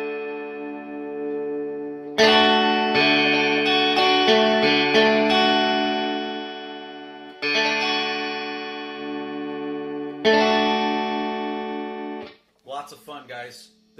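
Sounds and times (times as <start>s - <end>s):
distorted electric guitar: 0.0s - 12.4s.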